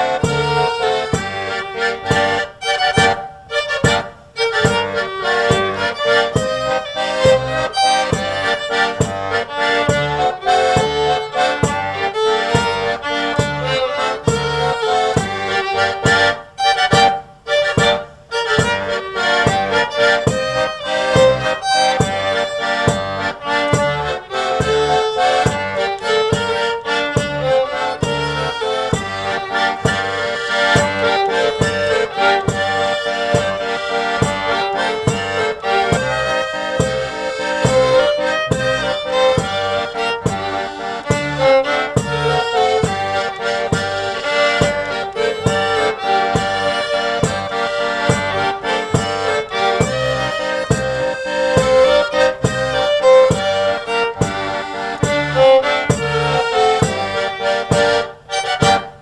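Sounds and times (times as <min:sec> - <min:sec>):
accordion and fiddle folk tune: 0:00.0 - 0:59.0.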